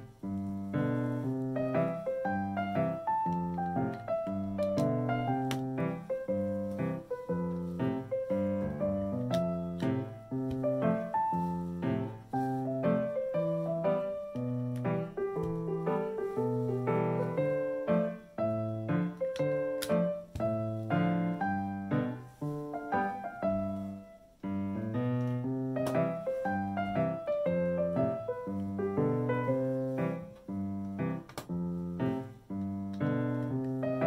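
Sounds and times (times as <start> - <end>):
light piano tune: 0.0 - 34.0.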